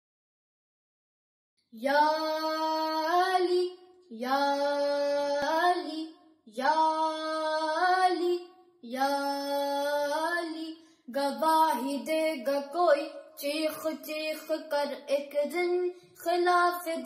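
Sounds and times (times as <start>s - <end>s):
boy singing unaccompanied: 1.8s - 17.0s.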